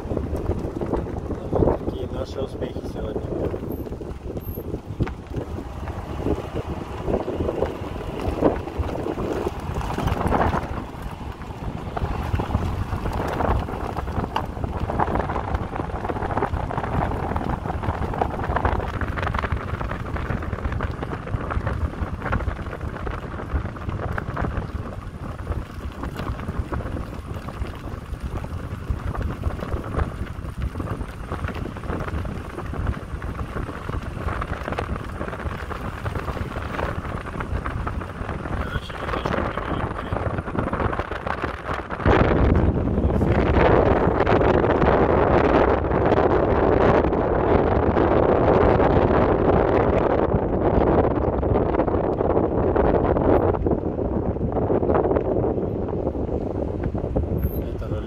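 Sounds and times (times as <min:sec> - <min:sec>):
car engine and tyres rumbling: 0:00.0 - 0:58.0
wind buffeting microphone: 0:00.0 - 0:58.0.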